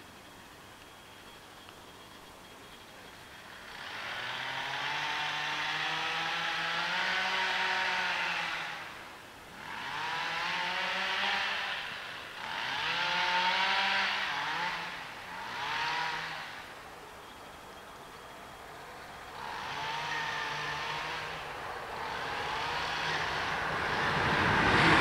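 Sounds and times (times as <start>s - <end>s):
vehicle engine accelerating: 3.4s - 25.0s.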